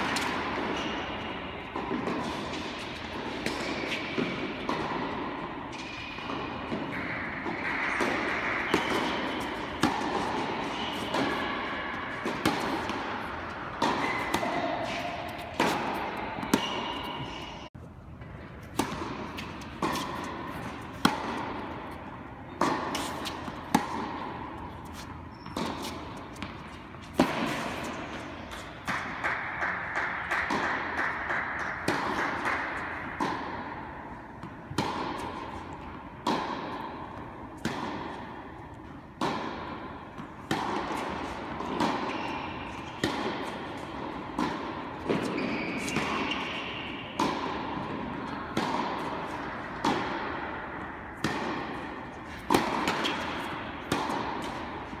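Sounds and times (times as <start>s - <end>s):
balls bouncing on hard court: 0.0s - 55.0s
steady background noise: 0.0s - 55.0s
tennis balls struck by rackets: 0.0s - 55.0s.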